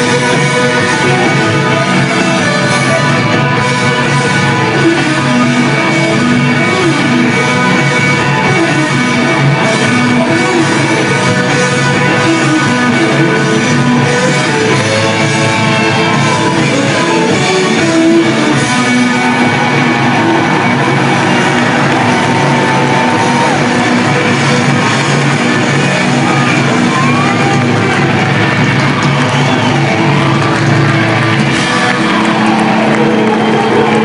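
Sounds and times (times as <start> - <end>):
audience shouting along: 0.0 - 34.0
live rock band: 0.0 - 34.0.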